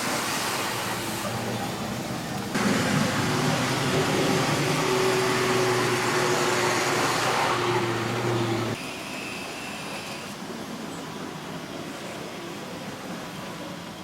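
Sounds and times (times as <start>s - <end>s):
mechanical hum and rumble: 0.5s - 14.0s.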